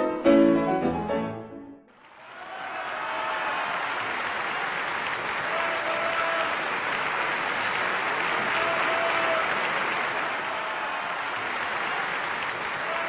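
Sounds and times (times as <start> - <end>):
children clapping: 1.9 - 13.0.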